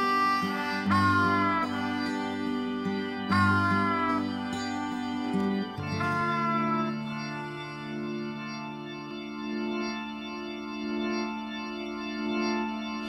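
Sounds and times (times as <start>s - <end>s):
sustained organ chords: 0.0s - 13.0s.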